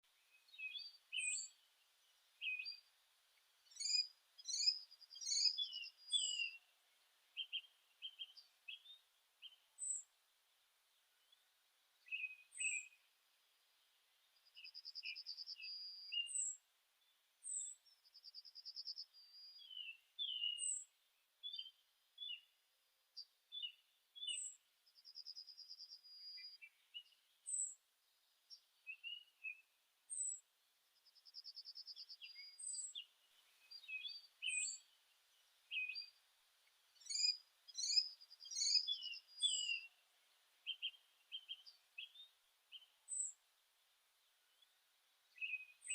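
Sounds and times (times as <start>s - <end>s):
songbirds chirping and singing: 0.0s - 2.9s, 3.6s - 10.1s, 10.9s - 22.6s, 23.2s - 30.4s, 31.0s - 45.9s.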